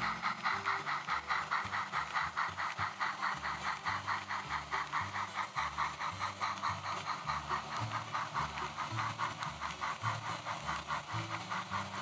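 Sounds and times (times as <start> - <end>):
model steam locomotive chuffing: 0.0 - 12.0.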